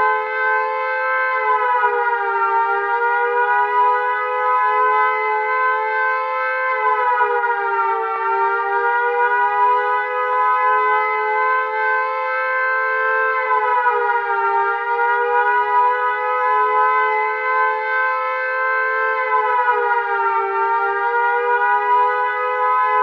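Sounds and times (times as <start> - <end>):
two-tone warning siren: 0.0 - 23.0.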